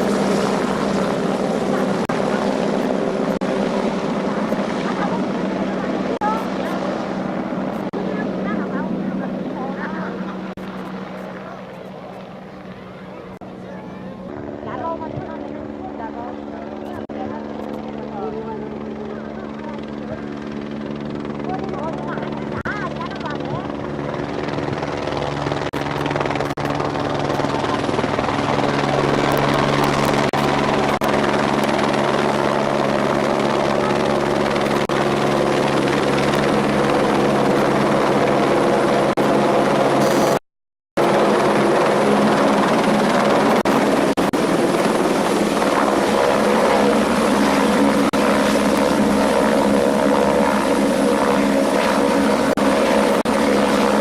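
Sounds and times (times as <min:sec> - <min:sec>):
helicopter rotor drone: 0:00.0 - 0:40.4, 0:41.0 - 0:54.0.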